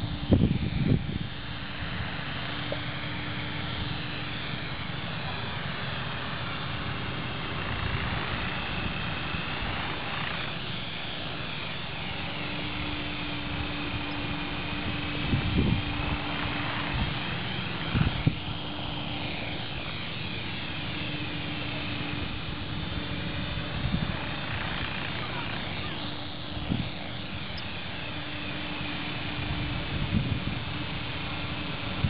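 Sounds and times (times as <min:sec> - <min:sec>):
rc helicopter hovering: 0:00.0 - 0:32.0.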